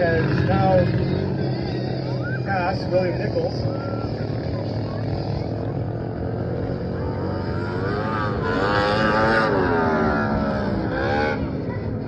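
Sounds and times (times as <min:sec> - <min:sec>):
racing lawnmower engines: 0:00.0 - 0:12.0.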